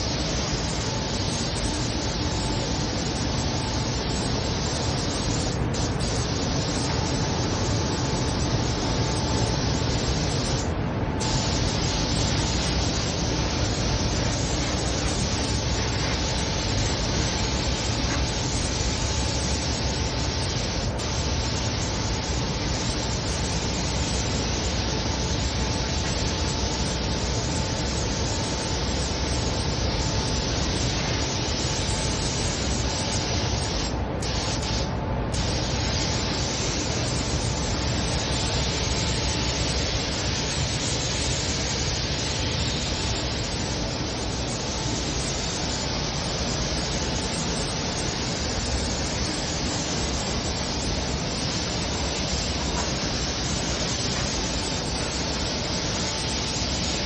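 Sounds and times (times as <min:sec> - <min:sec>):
air spray gun hissing: 0:00.0 - 0:57.0.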